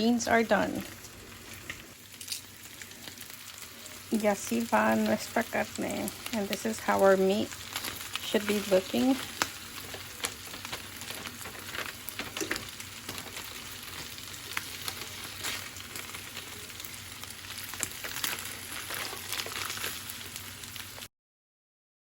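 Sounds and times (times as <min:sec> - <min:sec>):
steak sizzling with crackles: 0:00.0 - 0:21.1.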